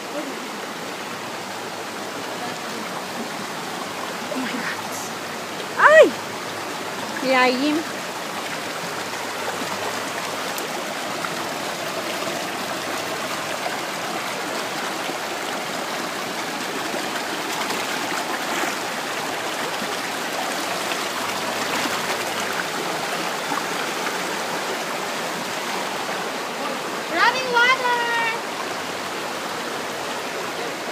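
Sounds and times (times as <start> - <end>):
water rushing over rocks: 0.0 - 30.9.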